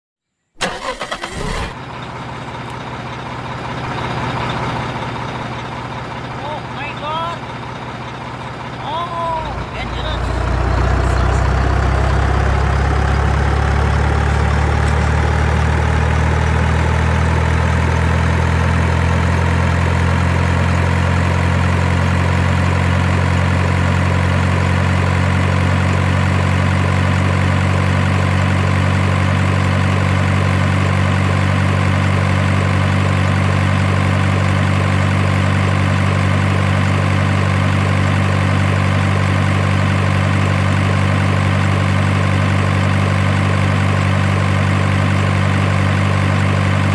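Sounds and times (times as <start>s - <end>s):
large vehicle engine idling: 0.6s - 46.9s
rising engine whine: 8.2s - 46.9s.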